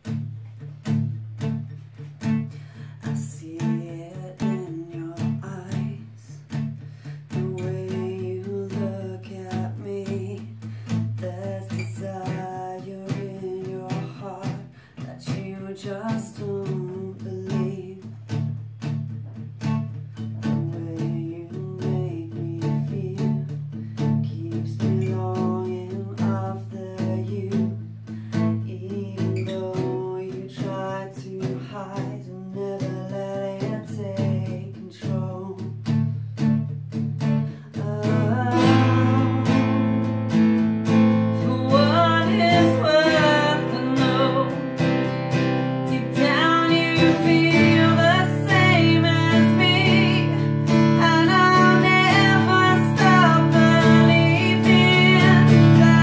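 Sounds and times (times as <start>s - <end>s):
acoustic guitar strumming: 0.0s - 56.0s
woman singing: 2.3s - 18.4s, 20.2s - 36.0s, 37.4s - 56.0s.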